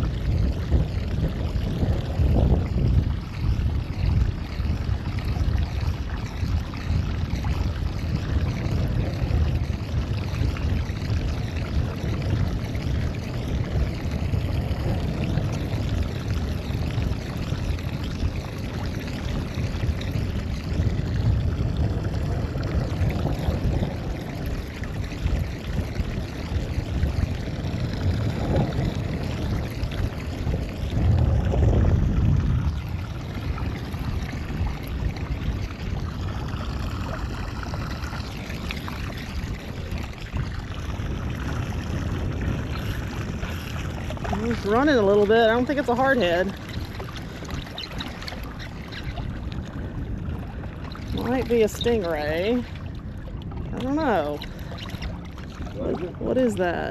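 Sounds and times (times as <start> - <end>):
water moving around boat: 0.0 - 56.9
wind on microphone: 0.0 - 56.9.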